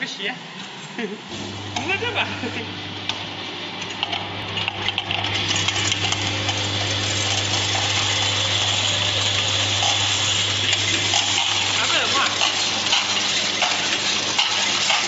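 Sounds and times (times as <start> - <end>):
machine feed trays humming: 0.0 - 15.0.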